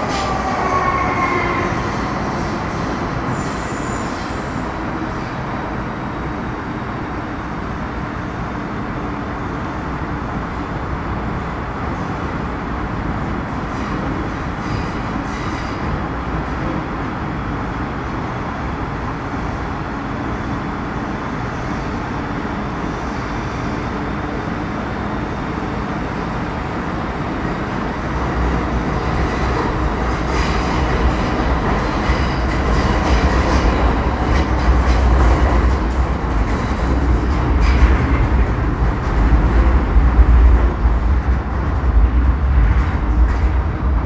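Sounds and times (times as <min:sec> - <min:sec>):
train running rumble: 0:00.0 - 0:44.0.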